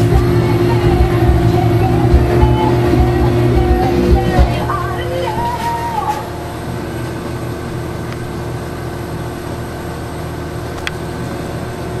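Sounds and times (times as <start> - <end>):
compressor machine hum: 0.0 - 12.0
fan whir: 0.0 - 12.0.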